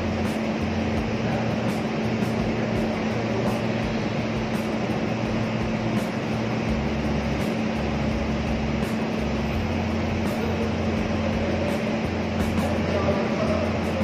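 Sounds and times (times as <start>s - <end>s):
diesel generator droning: 0.0s - 14.0s.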